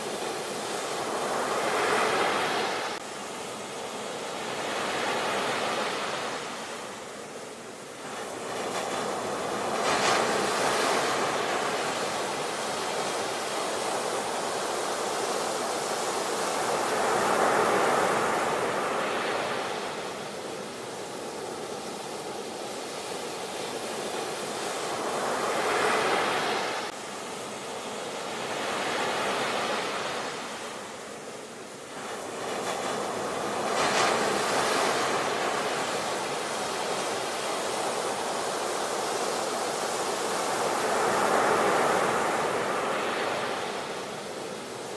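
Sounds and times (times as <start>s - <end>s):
ocean surf breaking: 0.0s - 7.0s, 7.9s - 44.9s.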